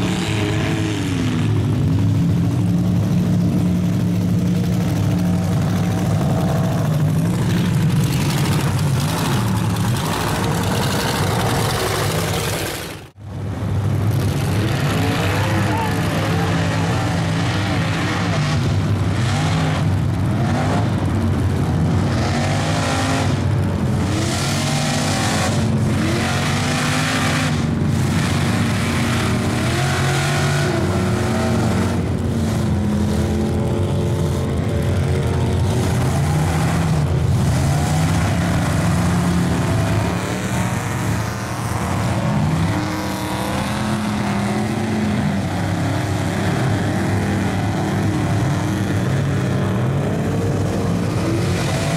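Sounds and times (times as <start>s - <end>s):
truck engine revving hard: 0.0s - 51.9s.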